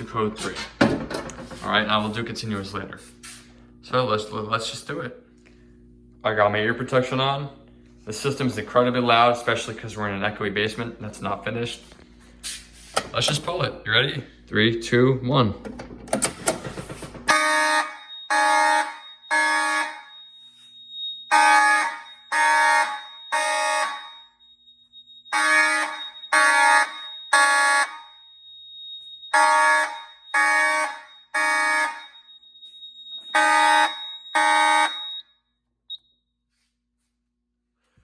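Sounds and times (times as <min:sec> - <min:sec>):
fire alarm horns blasting: 0:01.4 - 0:12.4, 0:16.7 - 0:36.3.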